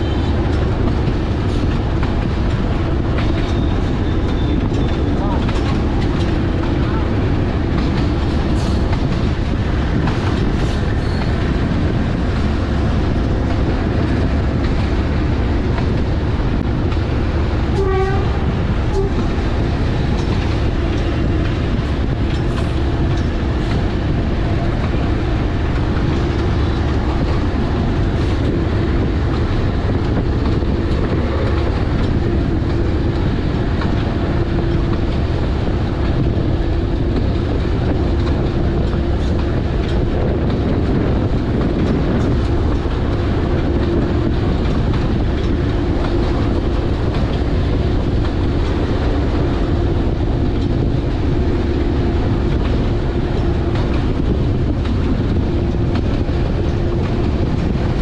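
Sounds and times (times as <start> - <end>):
locomotive engine drone: 0.0 - 58.0
wheels running on rails: 0.0 - 58.0.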